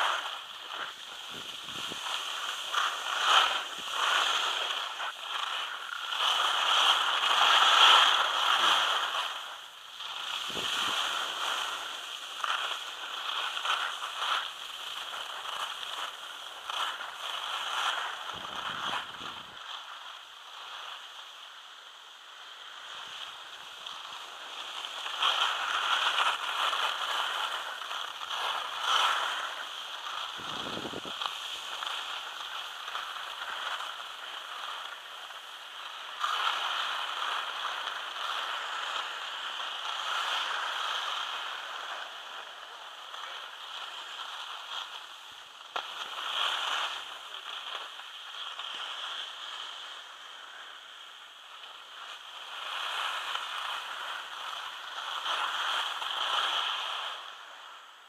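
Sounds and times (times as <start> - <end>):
skis scraping over snow: 0.0 - 58.0.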